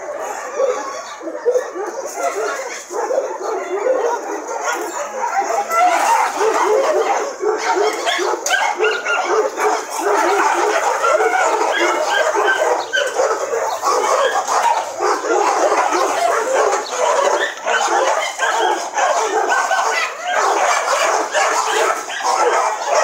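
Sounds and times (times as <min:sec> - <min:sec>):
many dogs barking: 0:00.0 - 0:23.0.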